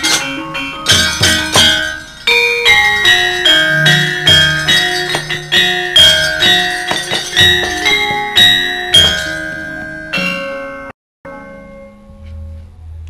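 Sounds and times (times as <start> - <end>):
gamelan metallophone melody: 0.0 - 12.7.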